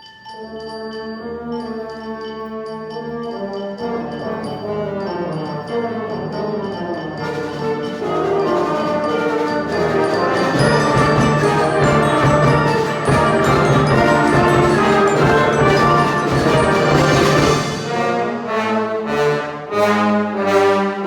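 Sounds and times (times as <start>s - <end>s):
percussion strokes: 0.0s - 20.8s
wind band playing chords: 0.4s - 21.0s.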